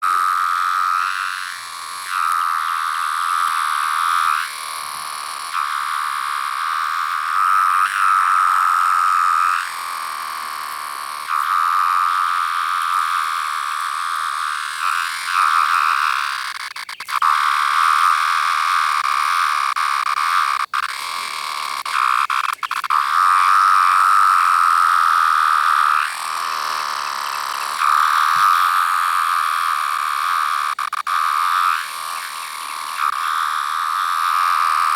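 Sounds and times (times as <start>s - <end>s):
cicada whining call: 0.0s - 34.9s.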